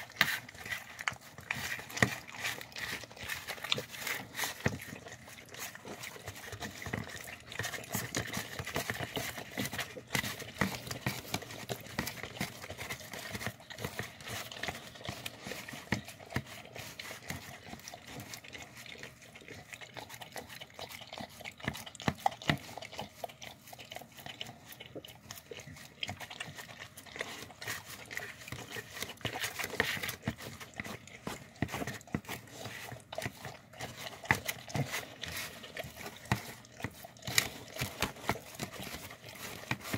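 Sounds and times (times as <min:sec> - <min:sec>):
dog chewing and licking: 0:00.0 - 0:39.9
teeth clicking on plastic: 0:00.0 - 0:39.9.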